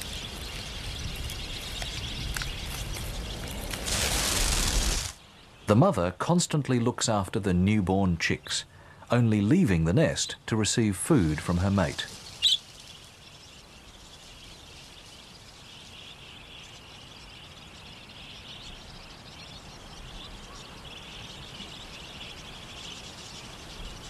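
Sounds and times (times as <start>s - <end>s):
bird chirp: 0.0s - 24.0s
high-pitched chirping chorus: 0.0s - 24.0s.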